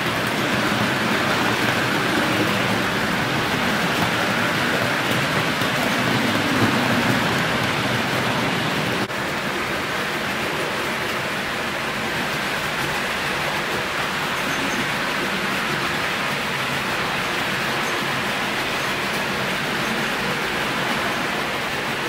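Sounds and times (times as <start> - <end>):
model train wheels rumbling: 0.0 - 22.0.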